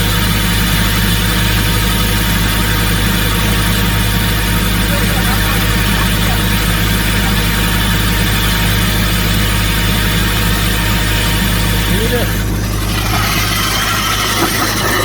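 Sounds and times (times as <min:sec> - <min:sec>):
drill rig low drone: 0:00.0 - 0:15.0.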